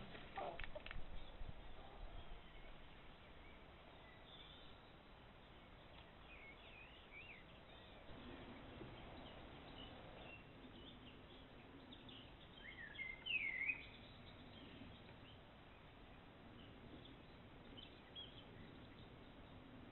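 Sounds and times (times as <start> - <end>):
songbirds singing: 0.0 - 19.9.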